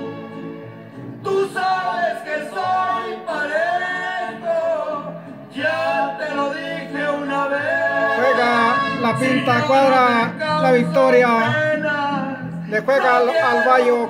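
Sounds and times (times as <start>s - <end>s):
instrumental backing music: 0.0s - 14.0s.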